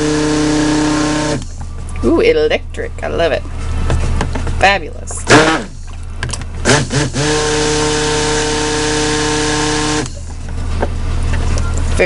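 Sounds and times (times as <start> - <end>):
stick blender humming: 0.0 - 2.1, 3.6 - 11.3.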